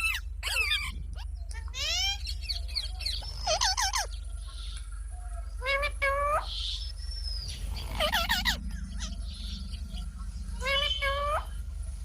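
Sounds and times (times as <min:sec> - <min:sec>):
parrot squawking: 0:00.0 - 0:04.2, 0:05.6 - 0:11.6
steady low hum: 0:00.0 - 0:12.0.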